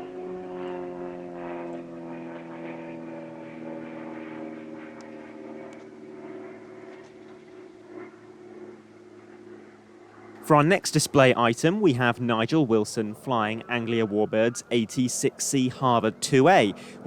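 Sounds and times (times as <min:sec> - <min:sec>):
propeller aircraft flying: 0:00.0 - 0:17.0.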